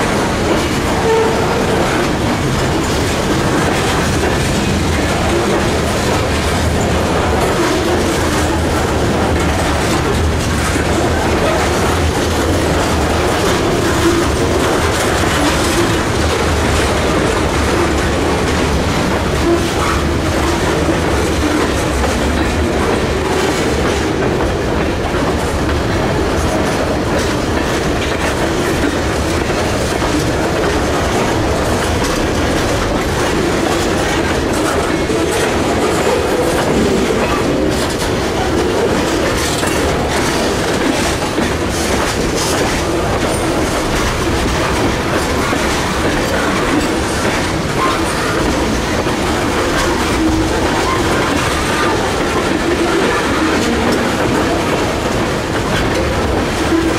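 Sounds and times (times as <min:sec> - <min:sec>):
freight train wheels rumbling: 0:00.0 - 0:56.9
wheels clacking over rail joints: 0:00.0 - 0:56.9.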